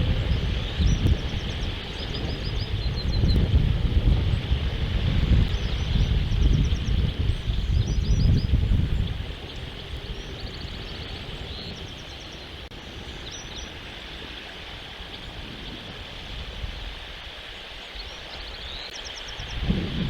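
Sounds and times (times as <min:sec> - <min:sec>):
bird chirps and trills: 0:00.0 - 0:15.9, 0:17.5 - 0:19.7
wind on microphone: 0:00.0 - 0:20.0.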